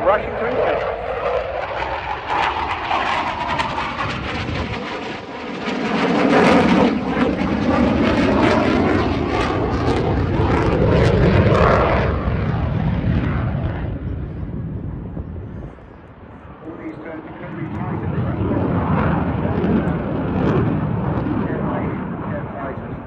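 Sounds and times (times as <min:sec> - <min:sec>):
loud crackling jet noise: 0:00.0 - 0:23.0.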